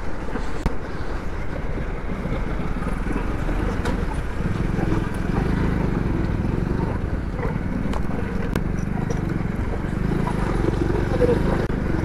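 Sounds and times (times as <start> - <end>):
motorcycle engine running: 2.2 - 12.0.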